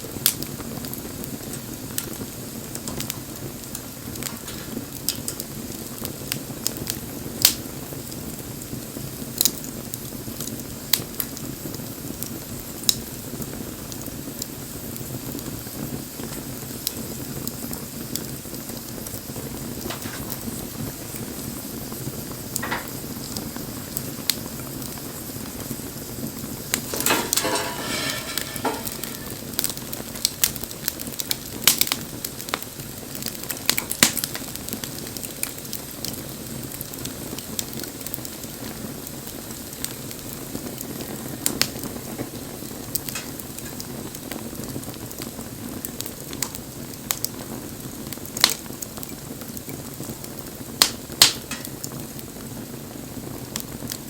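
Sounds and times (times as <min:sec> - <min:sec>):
wood fire crackling and hissing: 0:00.0 - 0:54.0.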